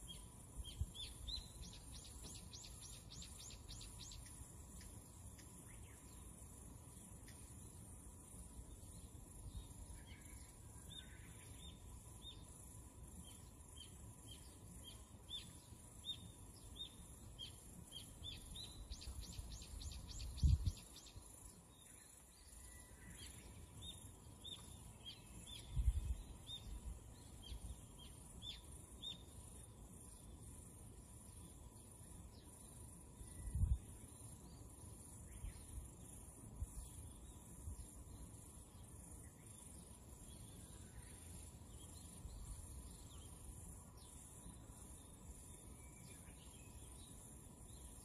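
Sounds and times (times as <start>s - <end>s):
small birds chirping: 0.0s - 48.0s
steady high hiss: 0.0s - 48.0s.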